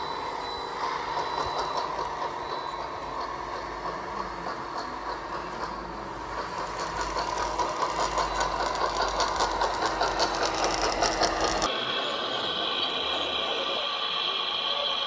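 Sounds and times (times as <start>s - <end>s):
electric motors and hydraulic pump whirring: 0.0s - 15.0s
high whine of hydraulic pump: 0.0s - 15.0s
rattle of clicking gears and tracks: 0.0s - 15.0s.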